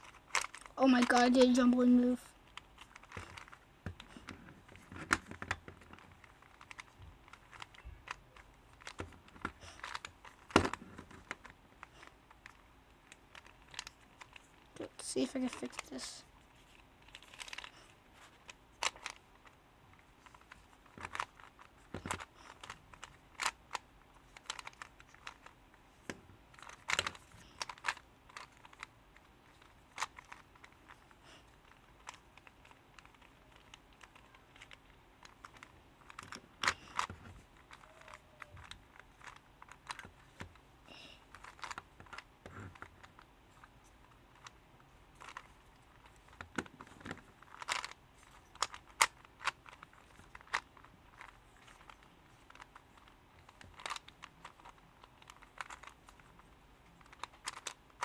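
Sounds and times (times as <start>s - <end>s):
puzzle cube clicking: 0.0s - 58.0s.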